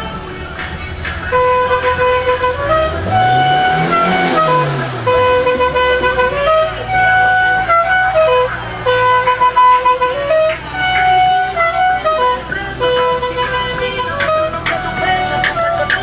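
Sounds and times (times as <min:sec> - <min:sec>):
car engine revving and idling: 0:00.0 - 0:16.0
musical car horn playing tune: 0:00.8 - 0:16.0.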